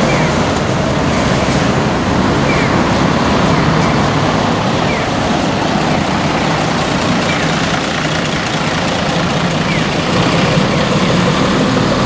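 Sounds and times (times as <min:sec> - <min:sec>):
bus diesel engine running: 0:00.0 - 0:12.0
road and traffic noise: 0:00.0 - 0:12.0.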